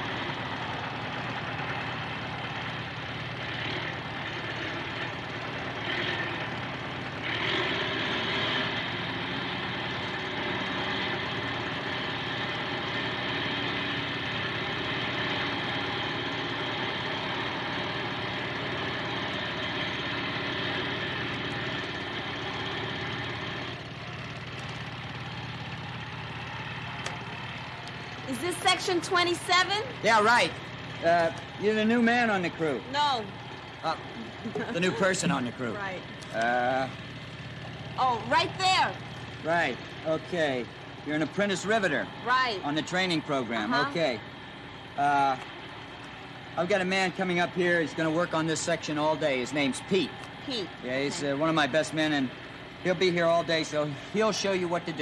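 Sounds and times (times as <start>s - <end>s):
machinery engine humming: 0.0s - 55.0s.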